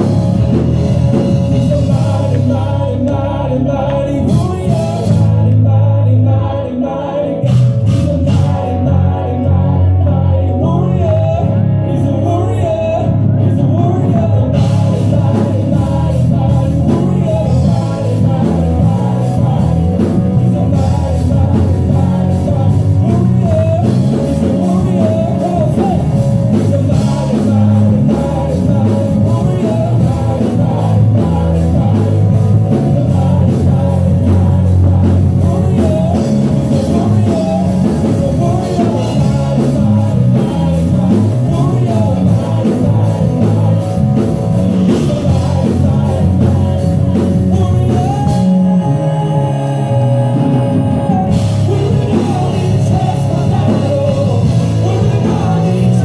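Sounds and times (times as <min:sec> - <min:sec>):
steady drum beat: 0:00.0 - 0:05.6, 0:07.4 - 0:08.8, 0:14.0 - 0:49.2, 0:50.4 - 0:56.0
loud rock music with singing: 0:00.0 - 0:56.0.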